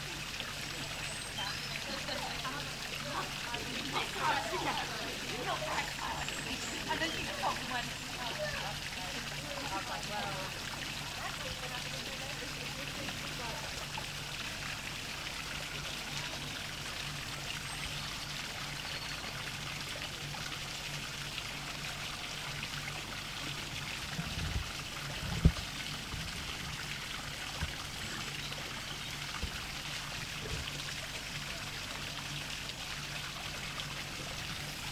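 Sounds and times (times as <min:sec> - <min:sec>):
water splashing into pond: 0:00.0 - 0:34.9.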